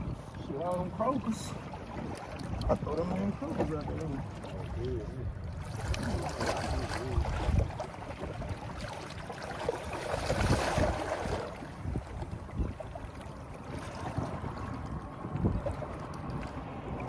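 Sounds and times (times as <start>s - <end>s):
water washing at shoreline: 0.0s - 17.0s
wind buffeting microphone: 0.0s - 17.0s.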